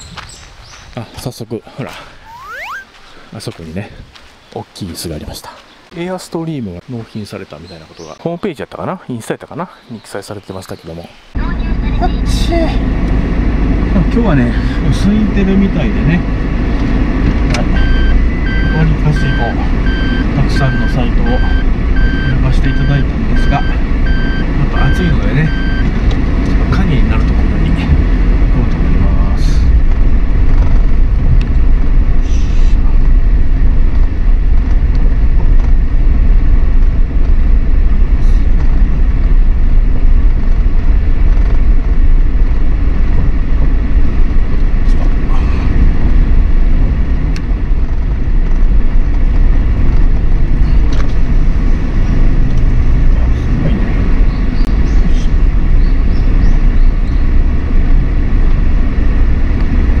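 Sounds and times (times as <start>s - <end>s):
engine and tyres rumbling: 0.0s - 60.0s.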